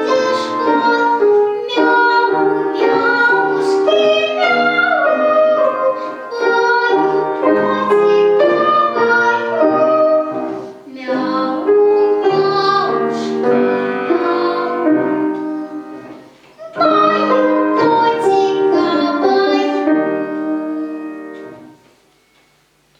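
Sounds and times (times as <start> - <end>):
girl singing: 0.0 - 21.7
piano accompaniment: 0.0 - 22.9.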